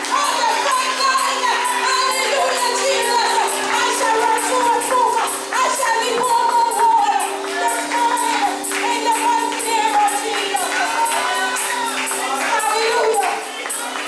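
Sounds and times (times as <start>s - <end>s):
tambourine beat: 0.0s - 14.0s
wavering lead melody: 0.0s - 14.0s.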